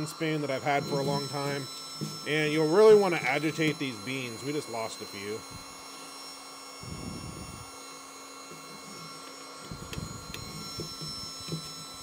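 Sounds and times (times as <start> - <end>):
cooling fan humming: 0.0 - 12.0.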